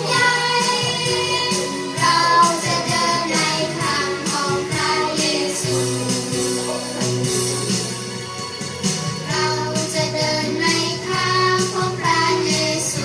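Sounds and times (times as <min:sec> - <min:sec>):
people singing worship song: 0:00.0 - 0:07.3, 0:09.3 - 0:13.0
light percussion beat: 0:00.0 - 0:12.6
instrumental backing: 0:00.0 - 0:13.0.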